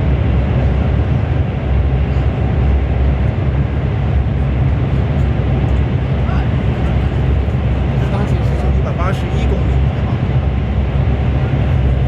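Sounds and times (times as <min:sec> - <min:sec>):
train cabin rumble and rushing: 0:00.0 - 0:12.0.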